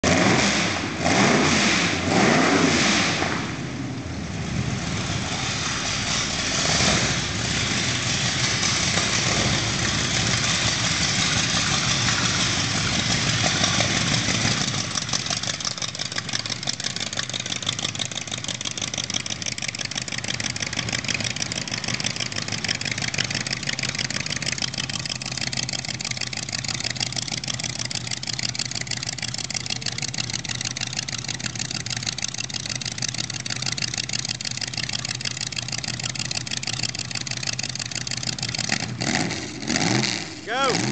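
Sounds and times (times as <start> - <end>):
car engine revving and idling: 0.0 - 40.9.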